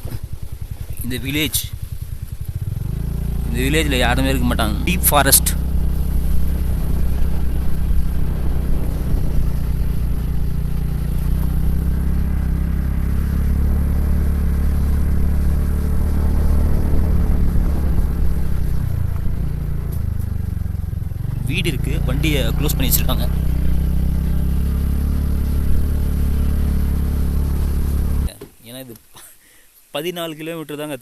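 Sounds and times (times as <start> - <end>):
motorcycle engine running: 0.0 - 28.3.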